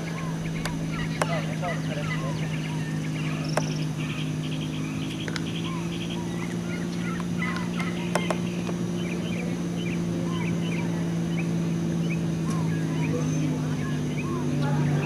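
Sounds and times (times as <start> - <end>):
birds chirping and trilling: 0.0 - 15.0
propeller plane engine droning: 0.0 - 15.0.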